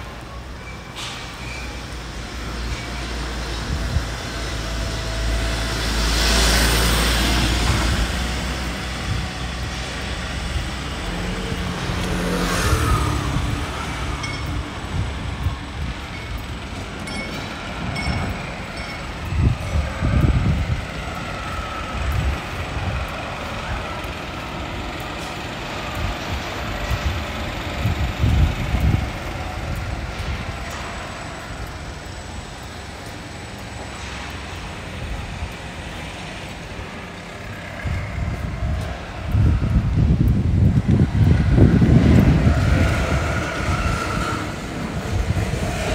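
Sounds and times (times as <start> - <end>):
traffic passing: 0.0 - 45.9
wind buffeting microphone: 1.9 - 45.9.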